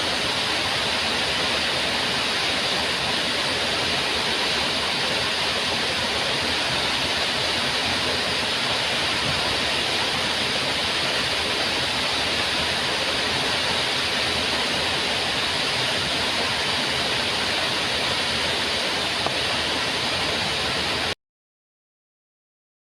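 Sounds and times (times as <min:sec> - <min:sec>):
waterfall rushing: 0:00.0 - 0:21.2.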